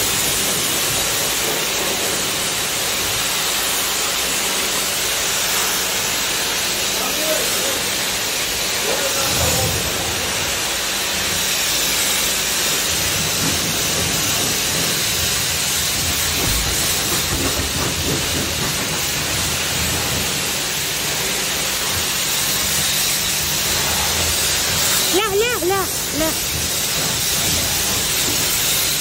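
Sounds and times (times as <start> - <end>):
water jet spraying car: 0.0 - 29.0.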